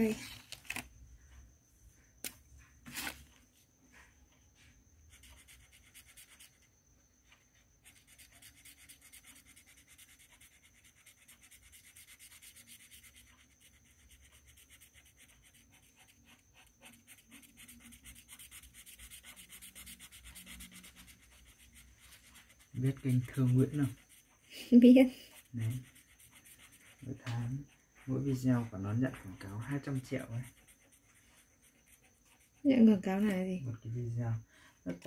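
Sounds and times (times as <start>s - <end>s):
coloured pencil scratching on paper: 4.0s - 33.5s.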